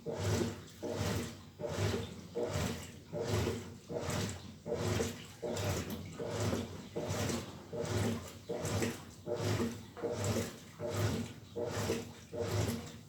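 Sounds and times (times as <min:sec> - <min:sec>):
washing machine motor humming: 0:00.0 - 0:13.0
water and laundry sloshing: 0:00.0 - 0:13.0.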